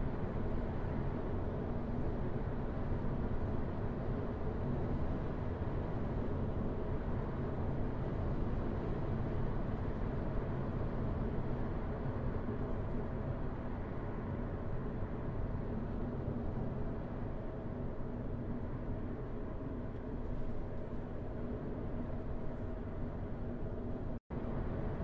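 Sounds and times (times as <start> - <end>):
car tyre and engine rumble: 0.0 - 25.0.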